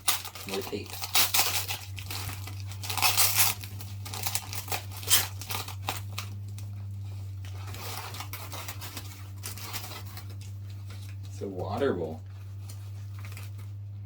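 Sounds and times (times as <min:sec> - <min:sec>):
packing tape tearing: 0:00.0 - 0:11.4, 0:12.6 - 0:13.7
wrapping crinkling: 0:00.0 - 0:13.9
steady low hum: 0:00.0 - 0:14.0.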